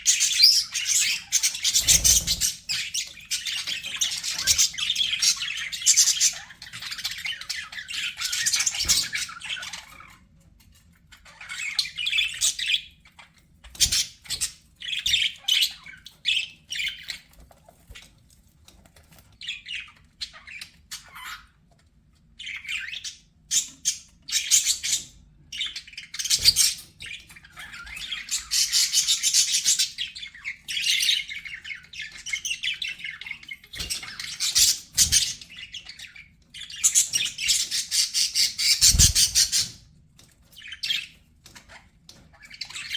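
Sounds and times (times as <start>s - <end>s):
budgerigars chattering and warbling: 0.0s - 10.4s, 11.1s - 18.1s, 19.3s - 21.7s, 22.4s - 42.9s.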